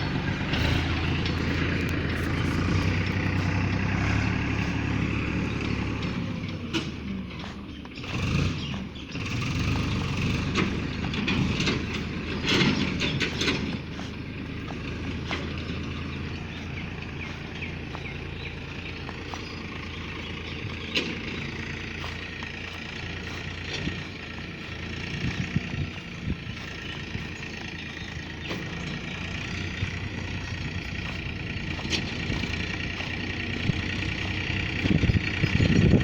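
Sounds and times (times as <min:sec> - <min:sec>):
rattling and knocks: 0:00.0 - 0:36.0
tractor engine running: 0:00.0 - 0:36.0.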